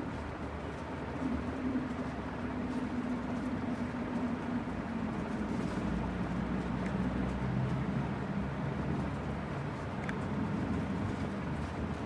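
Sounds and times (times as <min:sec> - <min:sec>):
ceiling fan running: 0:00.0 - 0:12.0.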